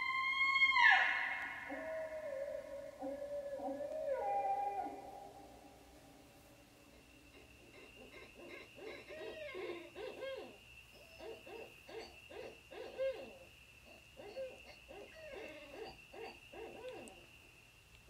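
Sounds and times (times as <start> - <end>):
owls hooting: 0.0 - 5.8, 6.9 - 17.2.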